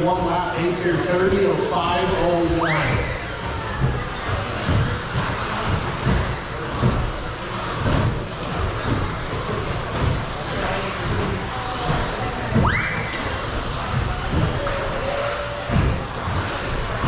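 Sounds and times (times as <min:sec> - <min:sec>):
rc truck motor whine: 0:00.0 - 0:17.0
irregular thumps: 0:01.9 - 0:17.0.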